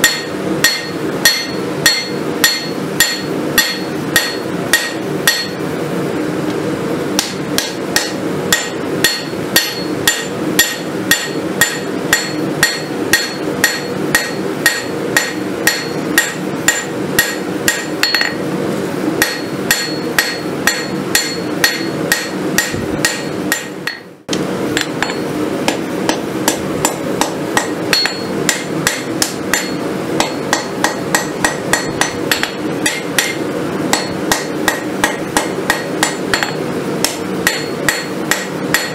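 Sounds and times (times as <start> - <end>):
hammer striking steel on anvil: 0.0 - 5.7, 7.2 - 18.5, 19.2 - 38.9
steady background hum: 0.0 - 38.9.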